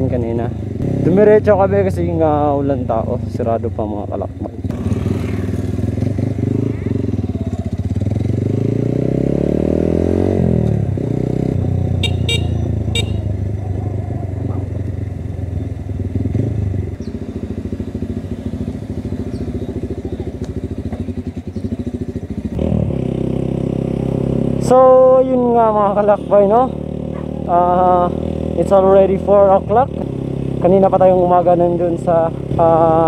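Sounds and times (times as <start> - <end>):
motorcycle engine: 0.0 - 33.0.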